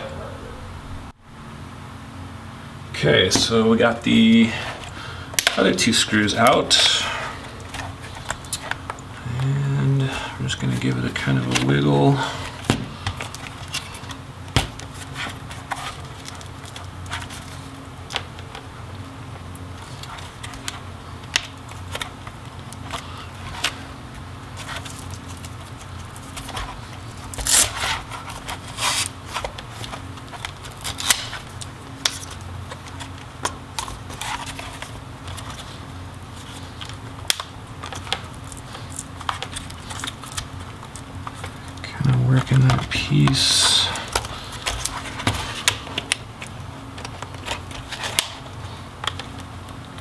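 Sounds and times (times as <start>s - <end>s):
plastic crackling: 4.2s - 50.0s.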